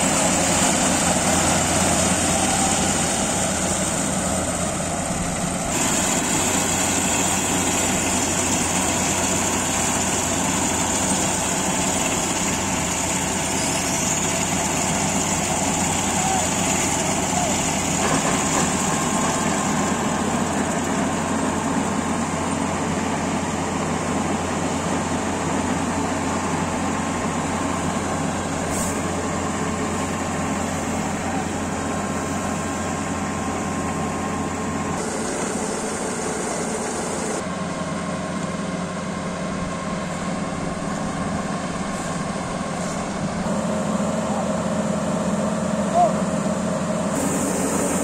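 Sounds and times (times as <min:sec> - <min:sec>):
combine harvester running: 0:00.0 - 0:48.0.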